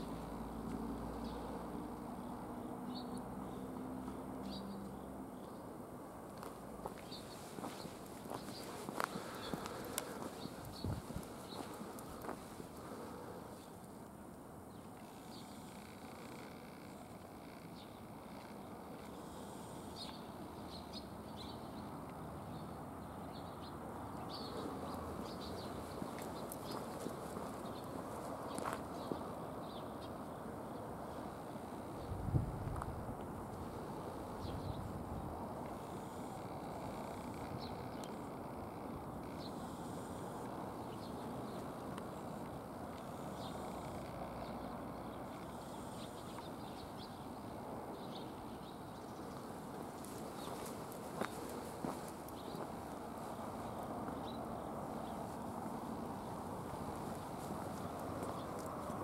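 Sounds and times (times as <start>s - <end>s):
small birds chirping: 0.0s - 5.7s, 6.4s - 14.1s, 14.7s - 32.2s, 33.5s - 59.0s
distant traffic hum: 0.0s - 59.0s
outdoor background noise: 0.0s - 59.0s.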